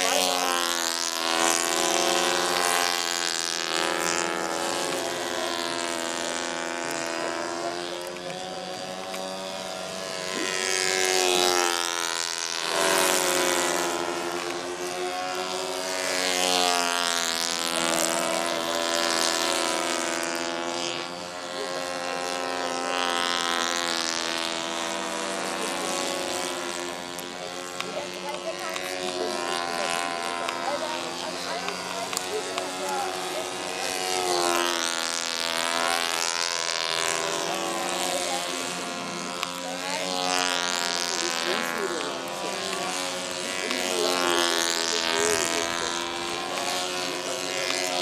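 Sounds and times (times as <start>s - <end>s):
model plane engines buzzing: 0.0s - 48.0s.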